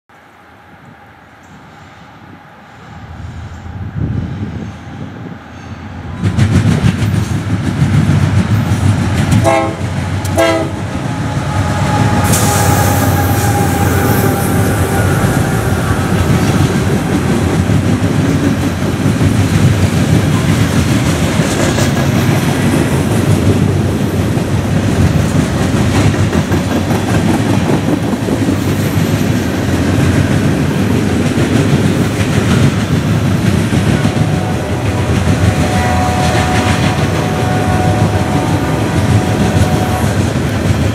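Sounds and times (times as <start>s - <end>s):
freight train wheels rumbling: 0.2s - 40.9s.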